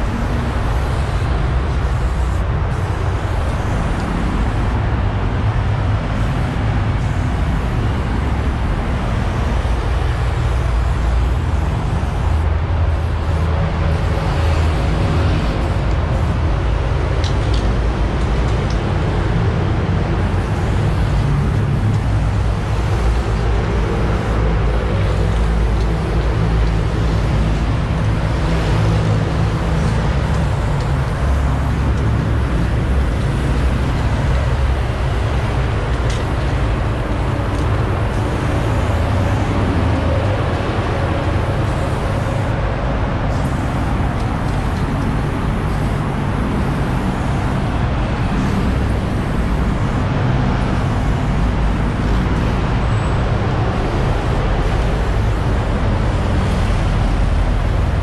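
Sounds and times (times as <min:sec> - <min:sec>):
aerosol spray can hissing: 0:00.0 - 0:58.0
low rumble of road traffic: 0:00.0 - 0:58.0.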